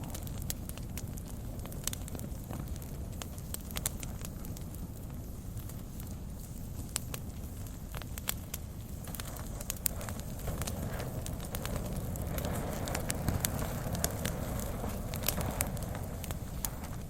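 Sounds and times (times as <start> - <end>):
fire crackling and popping: 0.0 - 17.0
low rush of flames: 0.0 - 17.0.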